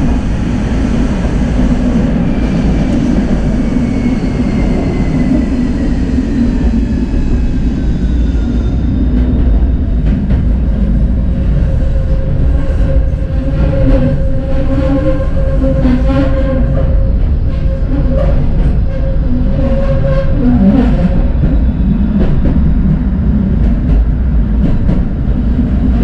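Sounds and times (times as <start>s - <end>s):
tram rumbling on rails: 0.0s - 26.0s.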